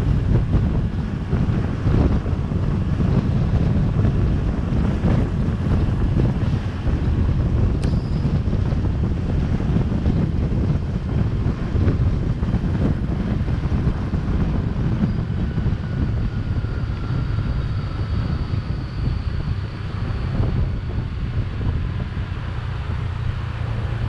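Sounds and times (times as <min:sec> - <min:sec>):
surrounding traffic: 0:00.0 - 0:24.0
wind rumbling on microphone: 0:00.0 - 0:24.0.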